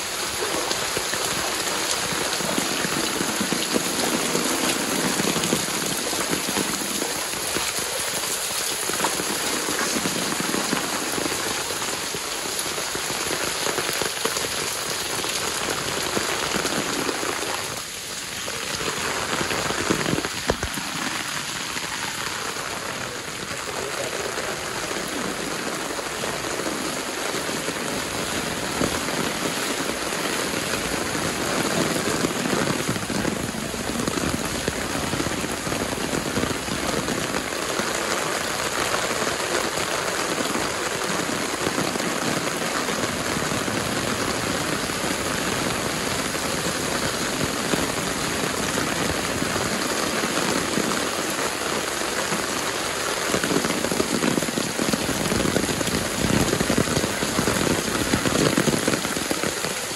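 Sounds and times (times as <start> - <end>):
heavy rain splattering on pavement: 0.0 - 59.9.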